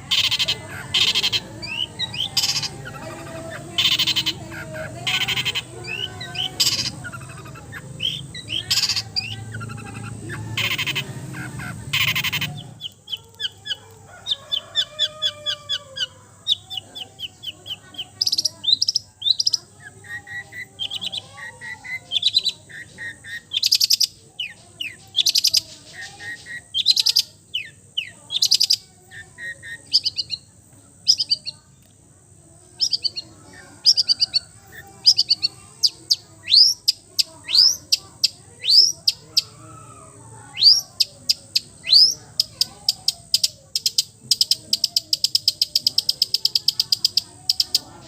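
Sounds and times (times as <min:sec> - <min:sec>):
bird singing varied song: 0:00.0 - 0:48.0.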